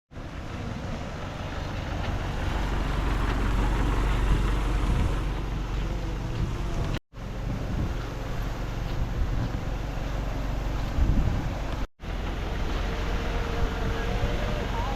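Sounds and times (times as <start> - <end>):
heavy diesel engine running: 0.2 - 14.9.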